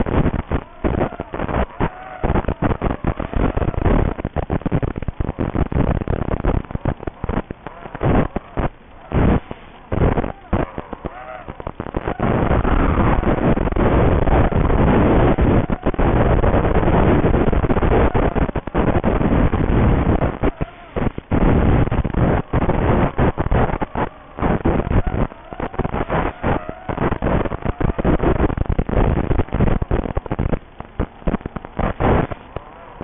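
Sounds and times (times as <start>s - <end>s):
rising and falling whines: 0.0s - 33.0s
rushing video link noise: 0.0s - 33.0s.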